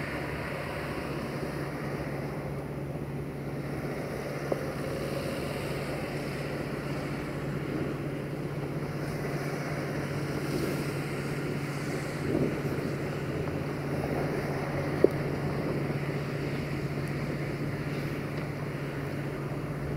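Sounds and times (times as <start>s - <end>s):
diesel locomotive droning: 0.0s - 19.9s.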